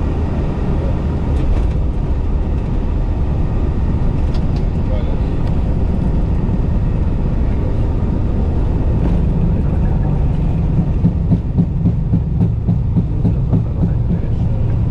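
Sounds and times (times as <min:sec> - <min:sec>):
aircraft runway rumble: 0:00.0 - 0:14.9.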